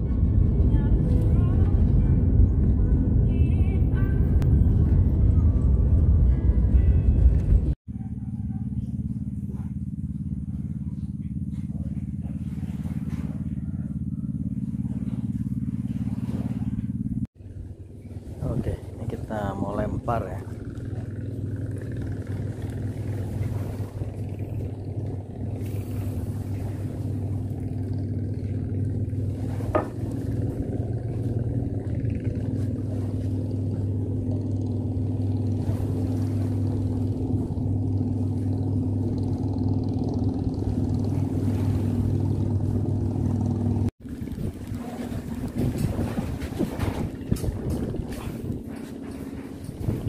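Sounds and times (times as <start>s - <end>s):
low steady engine drone: 0.0s - 50.0s.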